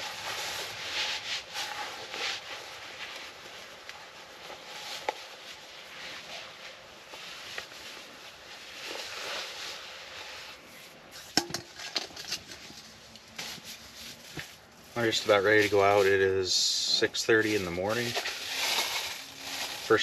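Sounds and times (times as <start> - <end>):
rustling and handling noises: 0.0 - 20.0.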